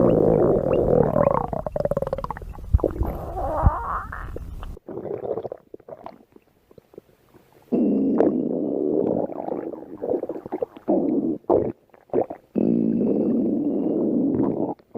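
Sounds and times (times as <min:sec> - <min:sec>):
stomach growling: 0:00.0 - 0:14.9.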